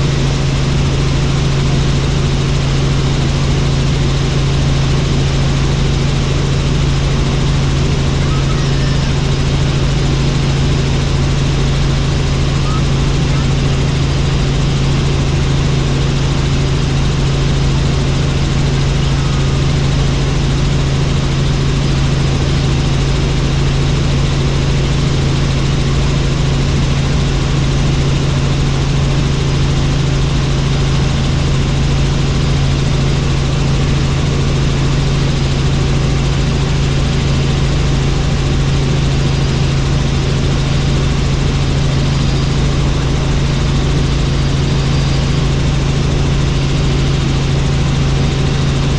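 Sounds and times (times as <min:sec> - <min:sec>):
helicopter engine and rotor: 0:00.0 - 0:48.9.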